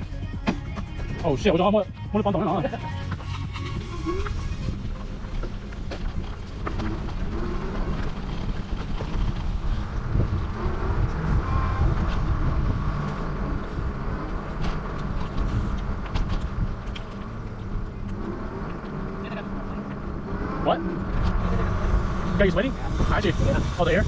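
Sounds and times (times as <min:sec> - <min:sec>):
wind buffeting microphone: 0:03.2 - 0:24.0.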